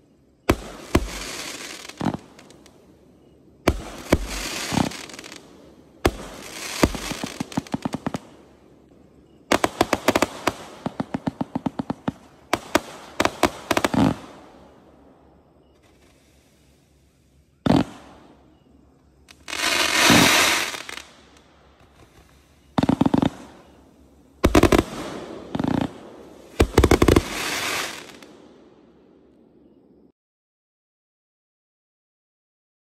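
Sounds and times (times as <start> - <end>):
crackling fireworks stars: 0.0 - 29.9
fireworks launch reports and bursts: 0.4 - 8.4, 9.4 - 14.8, 15.4 - 28.6.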